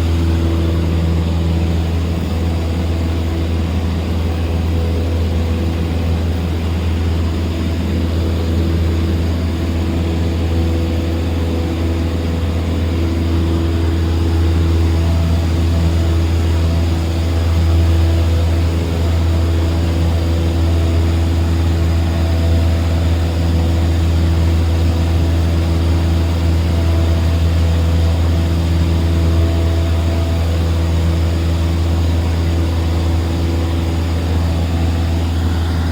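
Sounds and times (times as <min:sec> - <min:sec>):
propeller plane engine droning: 0:00.0 - 0:35.9.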